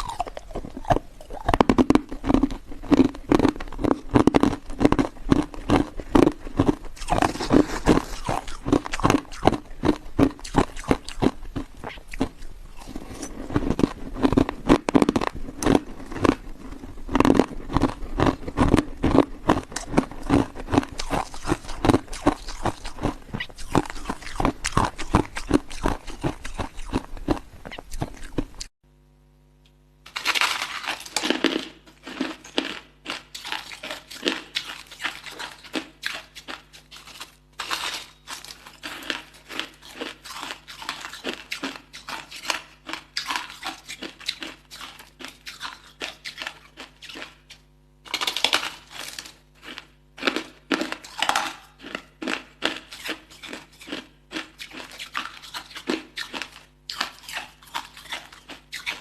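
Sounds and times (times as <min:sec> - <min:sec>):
ice crunching while chewed: 0:00.0 - 0:28.7, 0:30.1 - 0:59.0.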